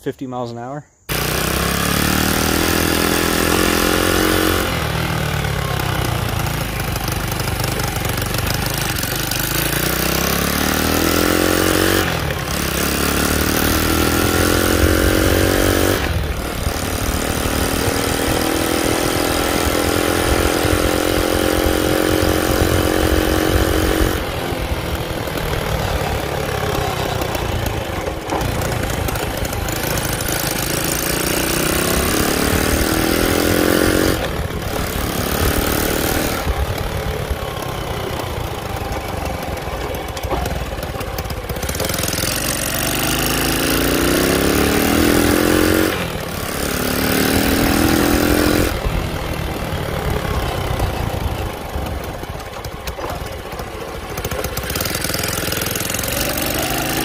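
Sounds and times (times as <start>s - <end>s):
motorcycle engine accelerating: 1.1s - 57.0s.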